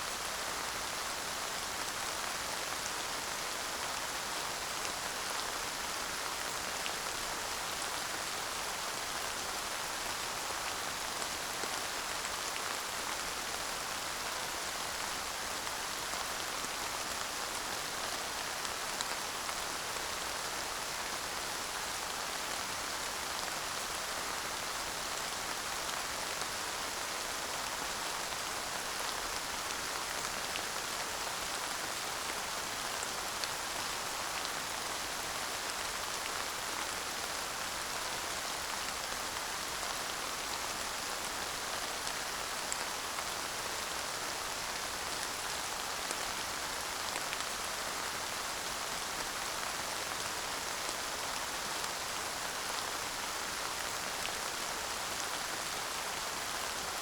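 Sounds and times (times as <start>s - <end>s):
light rain pattering: 0.0s - 57.0s.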